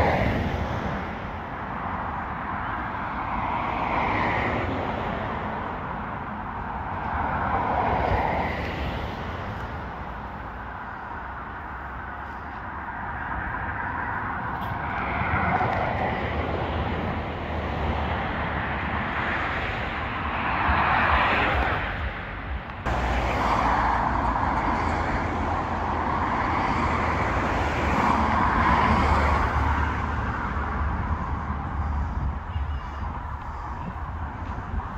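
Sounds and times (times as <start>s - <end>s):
low traffic rumble: 0.0s - 34.9s
vehicles passing: 0.0s - 34.9s.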